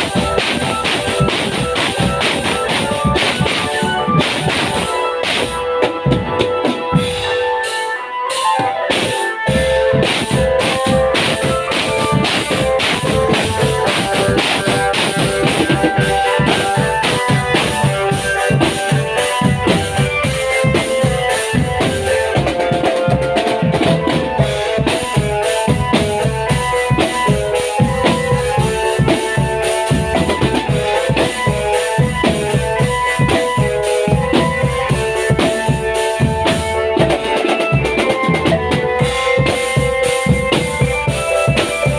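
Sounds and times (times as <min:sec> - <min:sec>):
bass and snare drums: 0:00.0 - 0:41.9
melody of held notes: 0:00.0 - 0:41.9.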